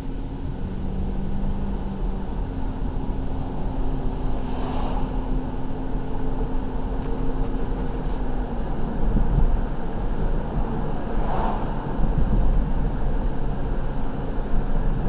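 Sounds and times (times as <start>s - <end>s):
car engine hum: 0.0s - 15.0s
road noise inside car: 0.0s - 15.0s.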